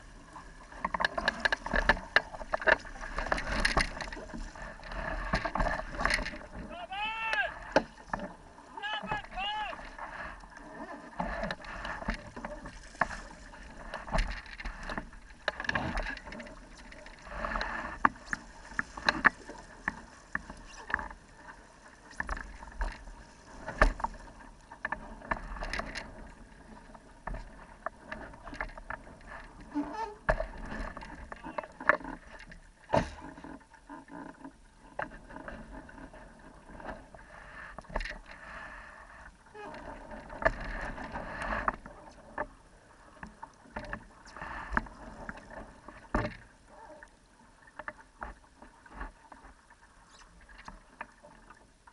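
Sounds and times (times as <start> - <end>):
water splashing against hull: 0.0 - 51.9.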